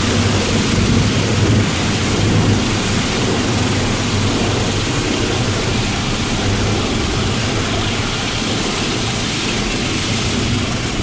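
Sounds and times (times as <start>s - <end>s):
car wash rushing noise: 0.0s - 11.0s.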